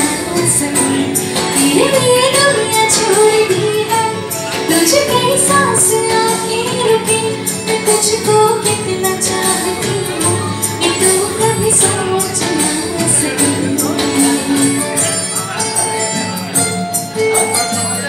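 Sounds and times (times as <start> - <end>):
woman singing into microphone: 0.0 - 15.4
backing music with percussion: 0.0 - 18.0.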